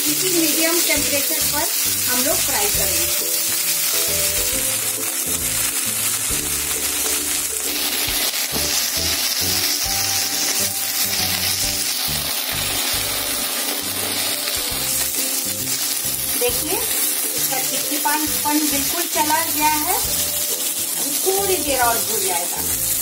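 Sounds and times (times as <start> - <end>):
okra sizzling in oil: 0.0 - 23.0
spatula stirring in wok: 0.1 - 23.0.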